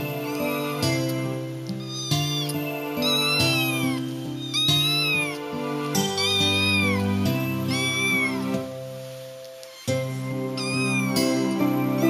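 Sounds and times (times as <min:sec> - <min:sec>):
cat meowing: 0:00.0 - 0:08.8, 0:09.6 - 0:12.0
background music: 0:00.0 - 0:12.0.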